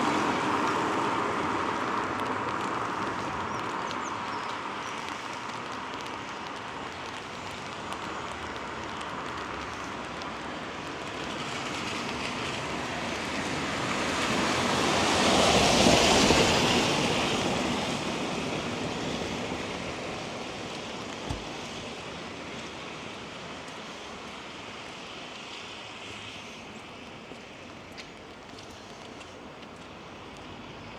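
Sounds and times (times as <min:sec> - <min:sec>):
light rain: 0:00.0 - 0:30.9
tyres hissing on wet road: 0:00.0 - 0:30.9.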